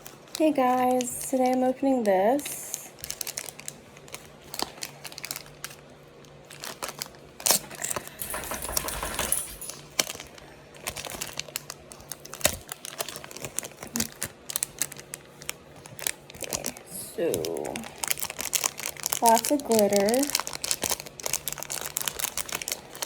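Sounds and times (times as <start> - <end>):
packaging crinkling: 0.0 - 23.0.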